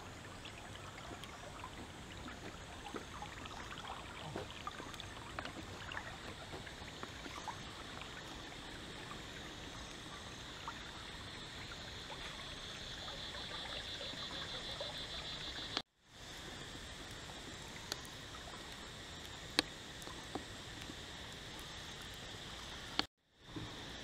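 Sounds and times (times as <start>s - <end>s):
stream trickling: 0.0s - 23.6s.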